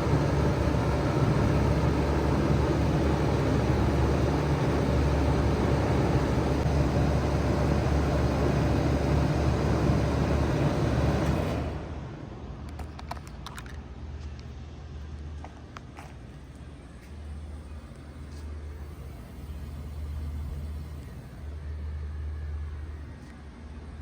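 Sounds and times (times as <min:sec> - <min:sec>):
heat pump hum: 0:00.0 - 0:24.0.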